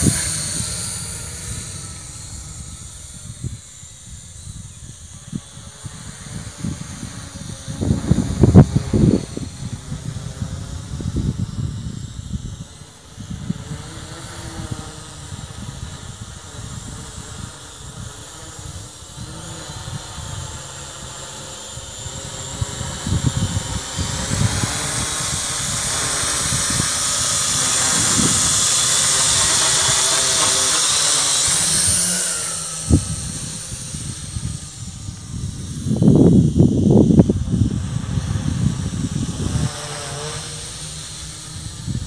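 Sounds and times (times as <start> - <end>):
toy drone motors whining: 0.0 - 42.0
wind rumbling on microphone: 0.0 - 42.0.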